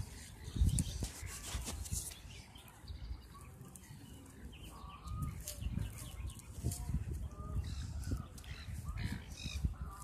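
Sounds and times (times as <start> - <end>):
wind rumble on microphone: 0.0 - 3.6, 4.5 - 10.0.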